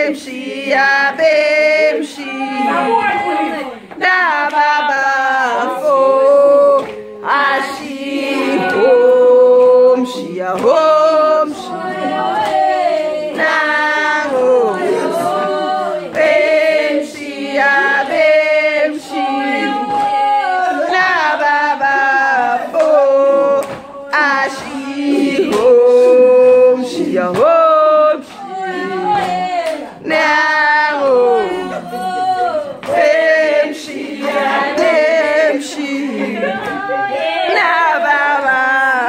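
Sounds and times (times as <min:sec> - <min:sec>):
choir singing in harmony: 0:00.0 - 0:39.0.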